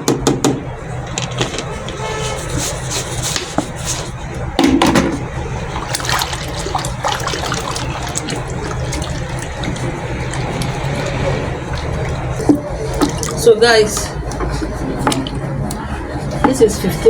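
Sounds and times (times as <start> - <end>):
steady low hum: 0.7 - 17.0
liquid sloshing in a bucket: 1.0 - 16.7.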